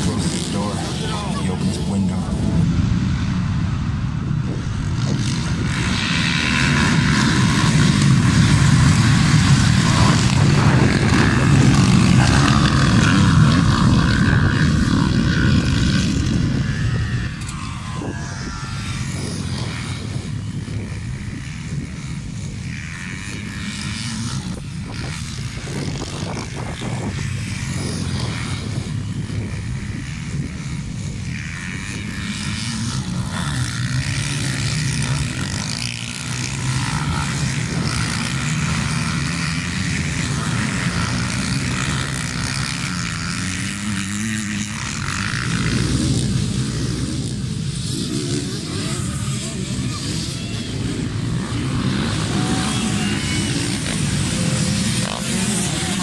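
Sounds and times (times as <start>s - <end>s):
motocross engines revving: 0.0s - 56.0s.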